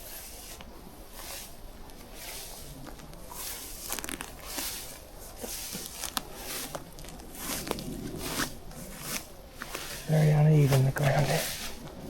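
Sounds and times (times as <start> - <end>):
footsteps walking through grass: 0.0 - 12.0.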